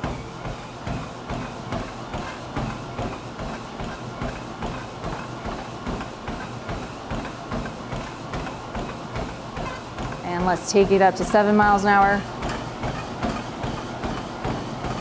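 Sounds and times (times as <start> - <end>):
footfalls on treadmill: 0.0 - 15.0.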